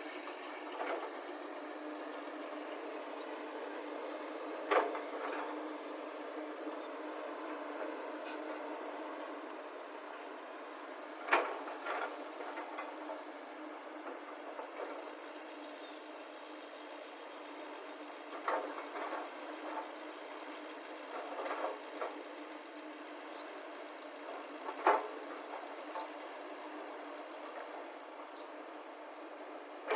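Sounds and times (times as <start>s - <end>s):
excavator and lorry engines: 0.0s - 29.9s.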